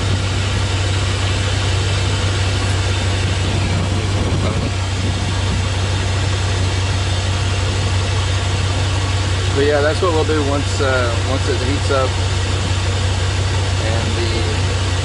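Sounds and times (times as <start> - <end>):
constant low hum: 0.0 - 15.0
pickup truck engine idling: 0.0 - 15.0.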